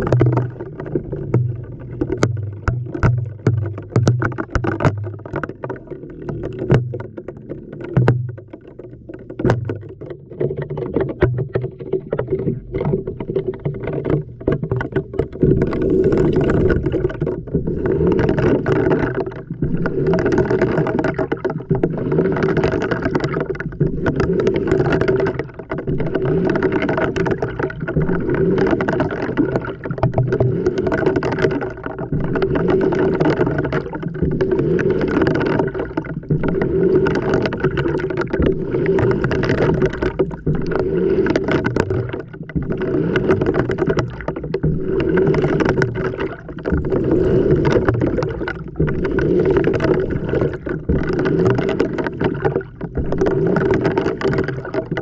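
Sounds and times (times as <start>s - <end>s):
water sloshing in washing machine: 0.0s - 55.0s.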